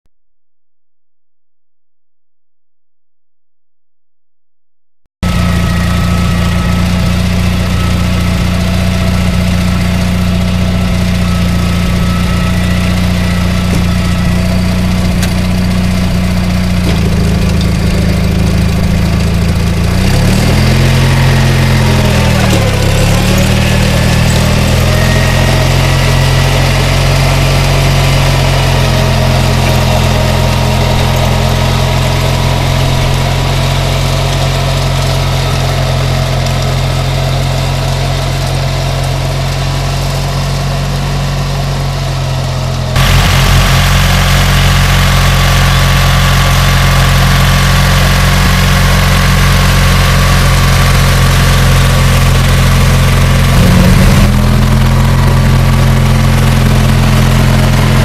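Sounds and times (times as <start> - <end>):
garden tractor engine running: 5.2 - 58.0.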